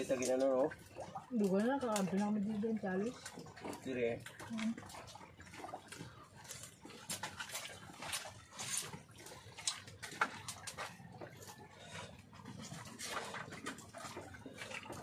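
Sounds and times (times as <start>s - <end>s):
chewing and lip-smacking: 0.0s - 15.0s.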